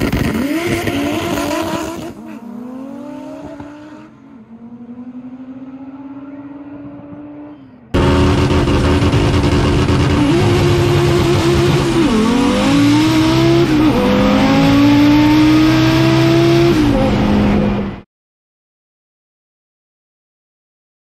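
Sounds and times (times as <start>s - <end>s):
car engine at full throttle: 0.0s - 18.0s
distant car running: 0.0s - 18.0s.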